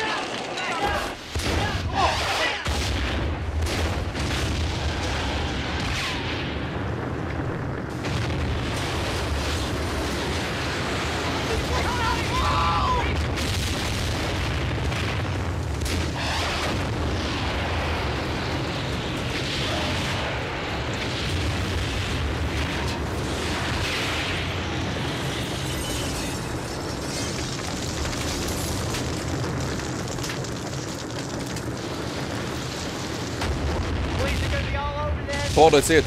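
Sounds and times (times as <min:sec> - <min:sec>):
continuous low rumble: 0:00.0 - 0:36.0
explosion blasts: 0:00.0 - 0:36.0.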